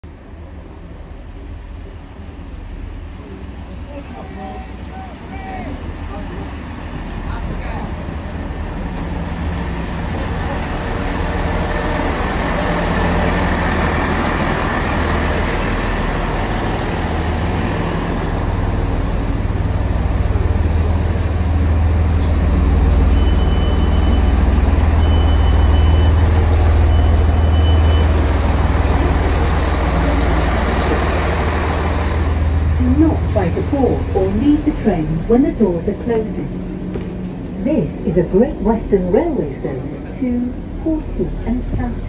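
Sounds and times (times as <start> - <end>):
train engines idling: 0.1 - 42.0.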